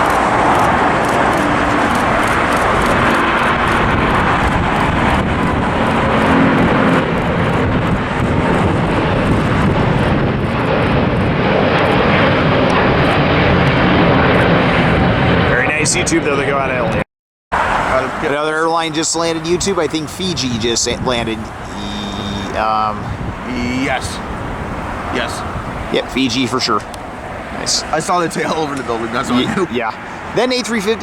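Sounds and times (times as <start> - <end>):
jet engines at takeoff: 0.0 - 17.0, 17.6 - 31.0.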